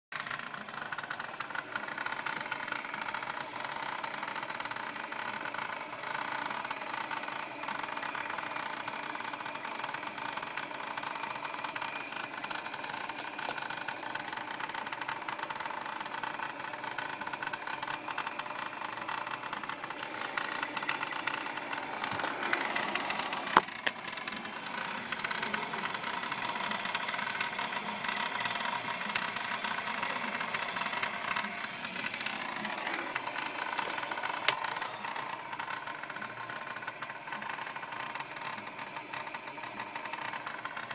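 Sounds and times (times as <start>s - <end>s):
rattling buzz from engine: 0.2s - 40.9s.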